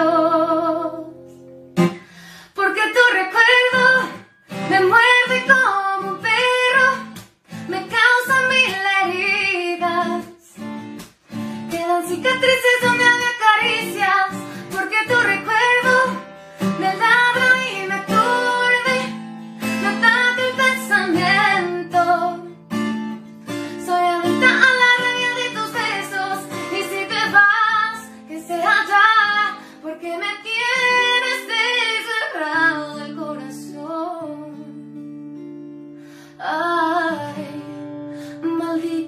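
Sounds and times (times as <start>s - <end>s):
woman singing a ballad: 0.0s - 1.5s, 2.3s - 22.9s, 23.5s - 39.0s
acoustic guitar: 0.0s - 39.0s.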